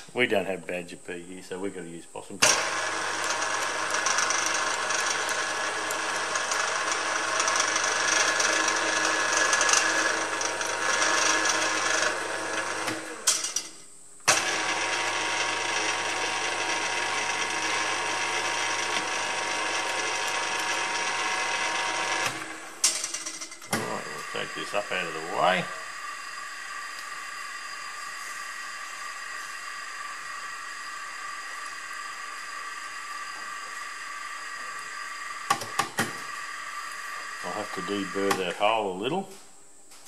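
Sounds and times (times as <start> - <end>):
drill press motor running: 2.4 - 13.5, 14.3 - 38.6.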